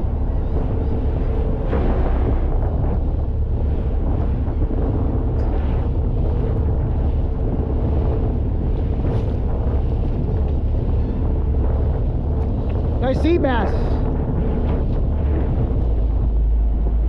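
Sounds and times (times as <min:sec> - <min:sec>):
fishing boat engine drone: 0:00.0 - 0:17.0
wind buffeting microphone: 0:00.0 - 0:17.0.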